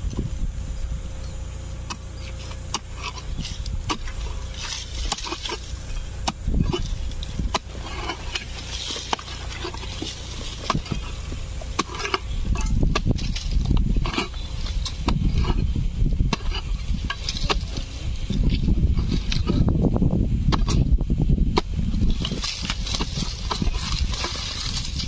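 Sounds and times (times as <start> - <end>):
spade scraping through dry soil: 1.3 - 25.0.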